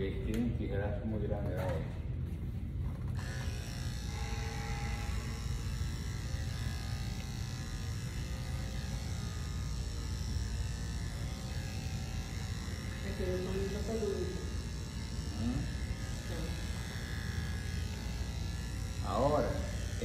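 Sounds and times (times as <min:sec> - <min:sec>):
electric clippers running: 0:00.0 - 0:20.0.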